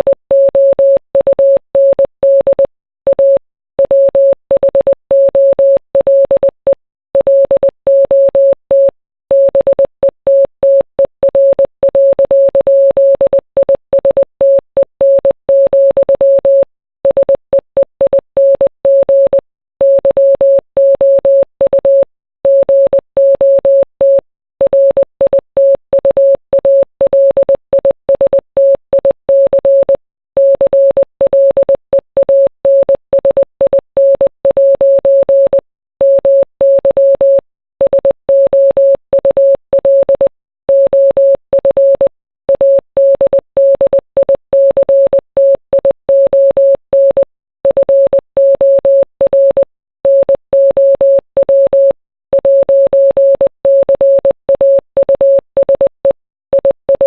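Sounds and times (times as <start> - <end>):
morse code beeps: 0.0 - 57.0.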